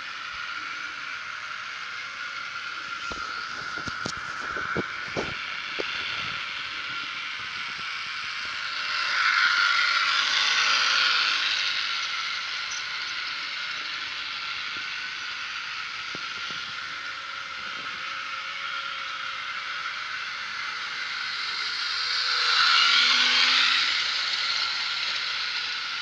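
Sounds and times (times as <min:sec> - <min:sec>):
model train motor whirring: 0:00.0 - 0:26.0
wheels rolling on rails: 0:00.0 - 0:26.0.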